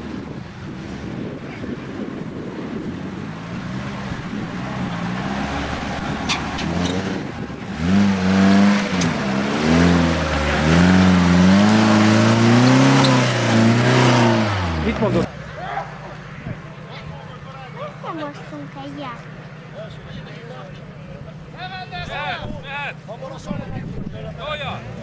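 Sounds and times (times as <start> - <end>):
vehicle engine revving hard: 0.0 - 25.0.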